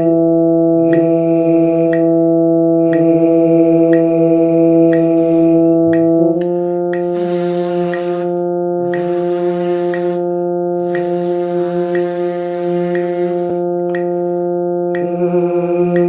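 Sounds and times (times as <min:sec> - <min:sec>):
electronic drone tone: 0:00.0 - 0:16.0
metronome clicking: 0:00.8 - 0:02.2, 0:02.8 - 0:14.2, 0:14.9 - 0:16.0
lip buzzing on mouthpieces: 0:00.8 - 0:16.0.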